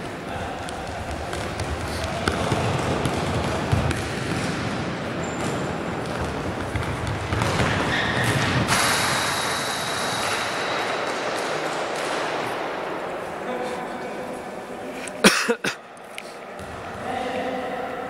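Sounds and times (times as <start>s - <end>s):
echoing sports hall din: 0.0s - 18.0s.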